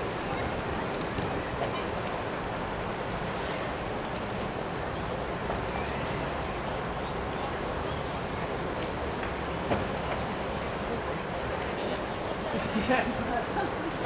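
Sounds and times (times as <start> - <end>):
rushing background noise: 0.0 - 14.0.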